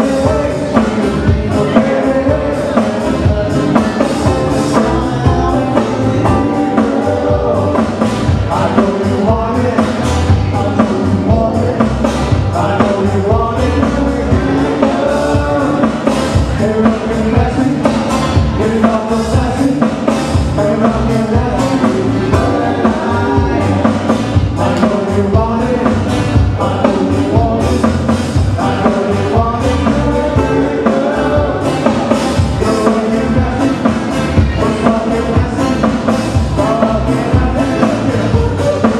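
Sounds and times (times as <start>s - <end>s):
drum kit beat: 0.0s - 38.9s
live band playing: 0.0s - 38.9s.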